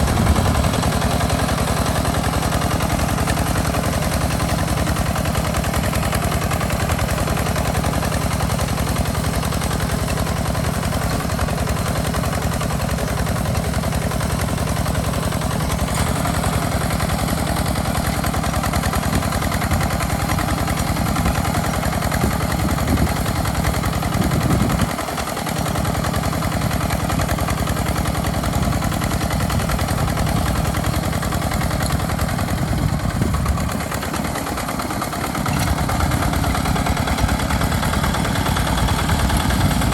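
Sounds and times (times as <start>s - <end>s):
diesel engine knocking exhaust: 0.0s - 39.9s.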